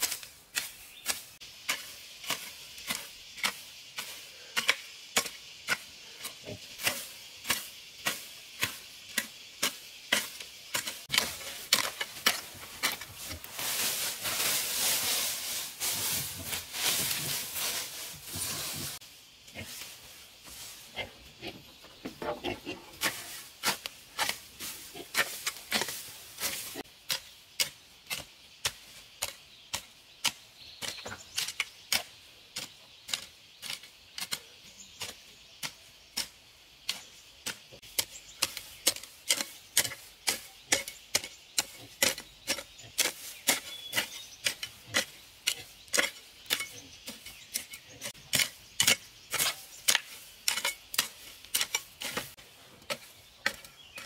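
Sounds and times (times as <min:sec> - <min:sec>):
hoe chopping into dry soil: 0:00.0 - 0:14.6, 0:22.4 - 0:34.4, 0:35.0 - 0:54.0.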